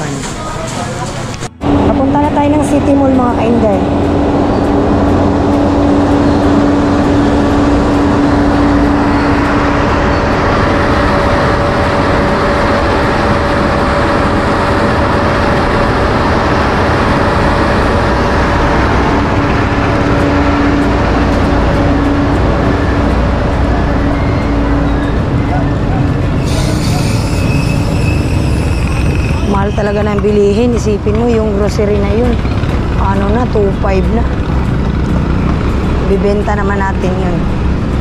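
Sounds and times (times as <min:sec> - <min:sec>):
scooter engine hum: 0:00.0 - 0:38.0
wind and road noise: 0:00.0 - 0:38.0.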